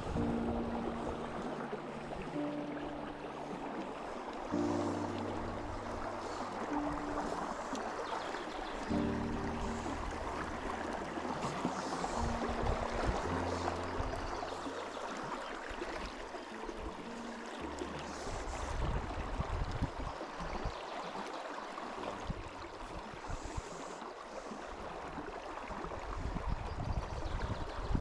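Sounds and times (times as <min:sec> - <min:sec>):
river water rushing over stones: 0:00.0 - 0:26.3.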